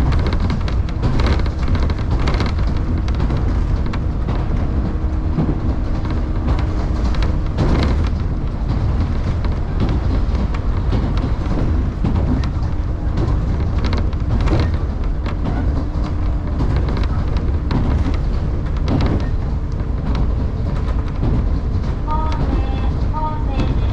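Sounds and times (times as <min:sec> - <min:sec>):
knocks over rail joints: 0:00.0 - 0:23.9
wheels rumbling on rail: 0:00.0 - 0:23.9.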